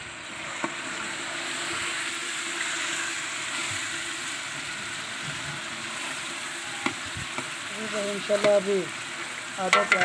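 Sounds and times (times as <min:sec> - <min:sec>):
curry sizzling in a pot: 0:00.0 - 0:10.0.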